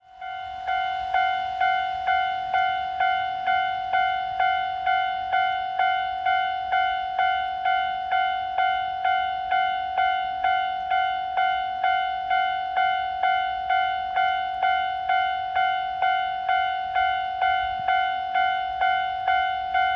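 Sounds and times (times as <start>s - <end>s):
level crossing bell ringing: 0.1s - 19.9s.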